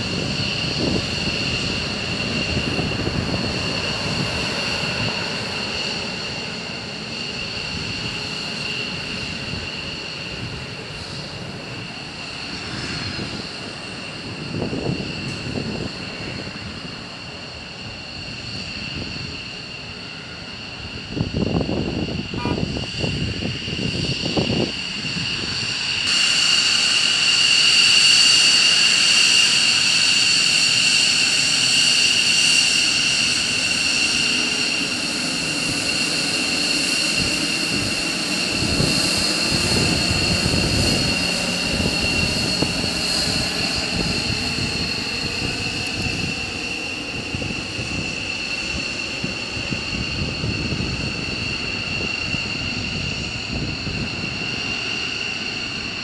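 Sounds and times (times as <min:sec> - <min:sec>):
jet engine whine: 0:00.0 - 0:56.0
low jet rumbling: 0:00.0 - 0:56.0.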